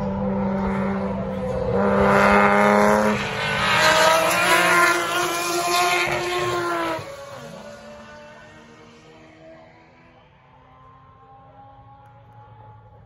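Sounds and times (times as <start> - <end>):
race cars passing at speed: 0.0 - 13.0.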